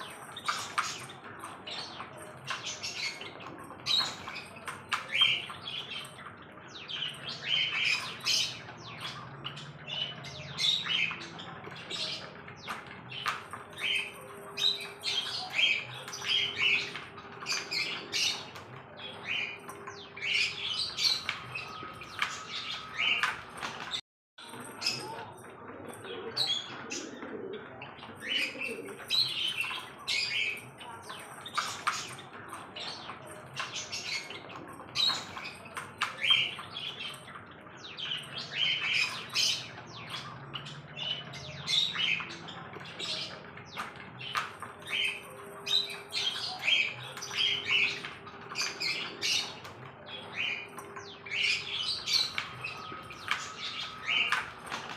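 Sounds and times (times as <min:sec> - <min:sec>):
birds chirping and squawking: 0:00.0 - 0:54.9.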